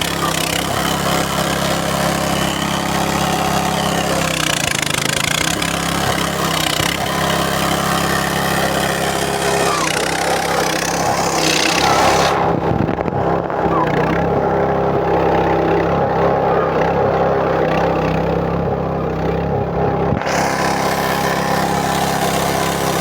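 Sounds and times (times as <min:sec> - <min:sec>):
grinding machine humming: 0:00.0 - 0:23.0.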